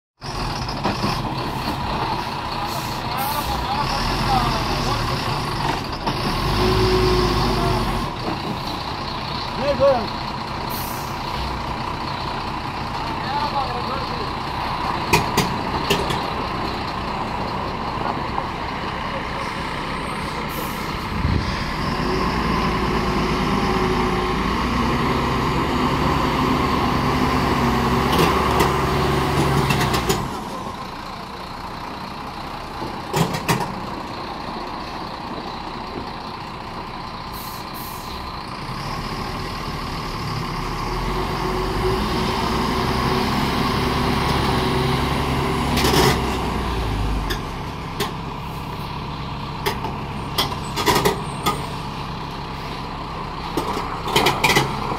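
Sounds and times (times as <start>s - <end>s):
truck diesel engine pulling hard: 0.2s - 54.9s.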